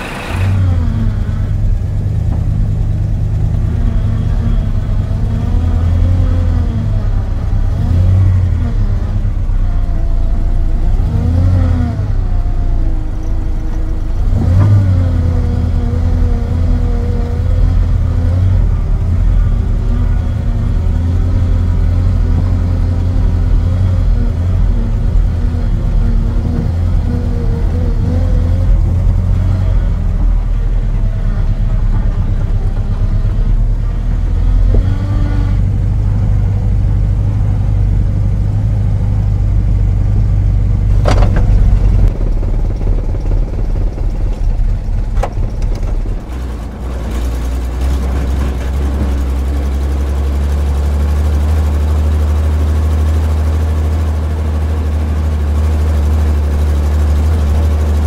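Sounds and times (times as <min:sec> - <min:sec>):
heavy vehicle engine humming: 0:00.0 - 0:58.0.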